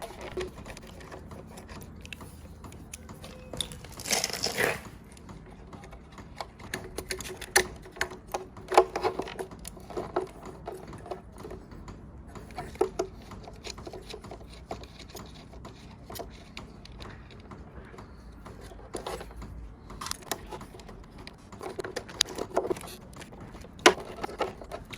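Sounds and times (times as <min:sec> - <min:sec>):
tools and parts clicking: 0:00.0 - 0:24.9.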